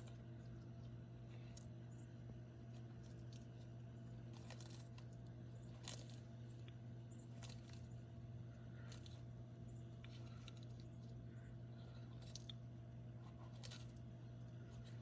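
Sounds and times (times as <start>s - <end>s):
steady low hum: 0.0s - 15.0s
tortoise chewing crunches: 0.0s - 15.0s.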